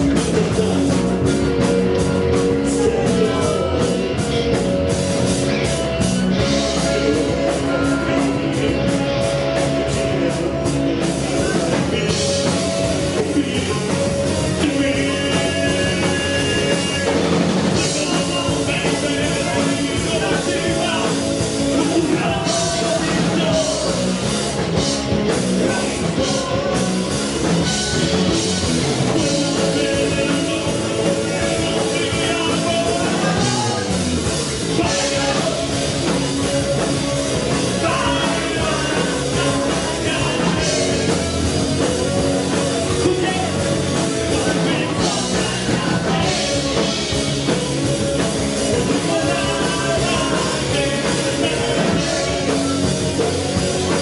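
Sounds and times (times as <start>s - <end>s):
bass guitar: 0.0s - 54.0s
drums: 0.0s - 54.0s
electric guitars: 0.0s - 54.0s.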